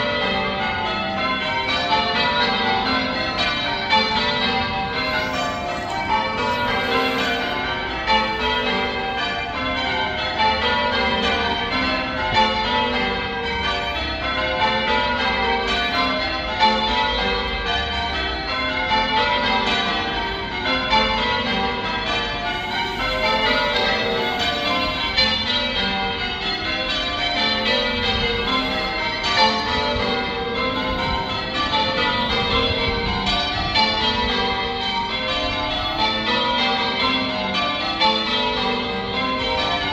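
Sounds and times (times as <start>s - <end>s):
church bells ringing changes: 0.0s - 39.9s.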